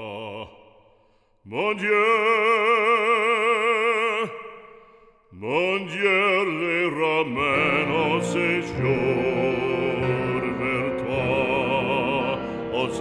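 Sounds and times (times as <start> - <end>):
male operatic voice singing: 0.0 - 13.0.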